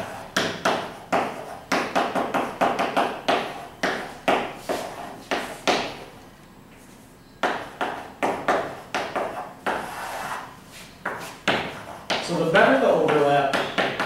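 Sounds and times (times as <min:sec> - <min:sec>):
chalk tapping on a blackboard: 0:00.0 - 0:06.1, 0:07.4 - 0:14.0.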